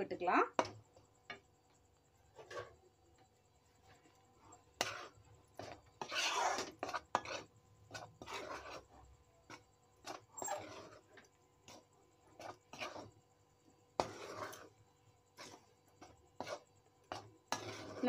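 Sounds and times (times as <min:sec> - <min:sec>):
metal spatula scraping dough in pan: 0:00.0 - 0:18.0.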